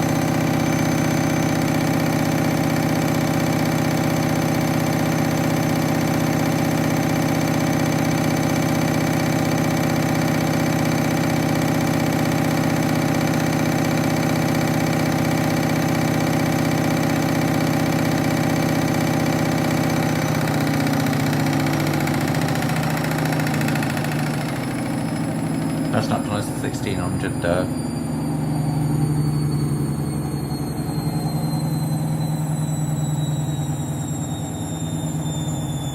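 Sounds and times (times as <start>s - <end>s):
washing machine spinning: 0.0s - 35.9s.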